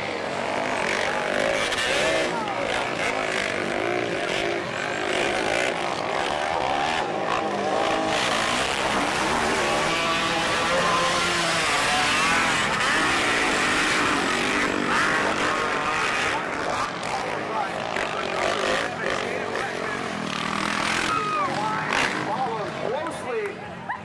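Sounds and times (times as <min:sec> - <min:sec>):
quad engines revving: 0:00.0 - 0:23.7.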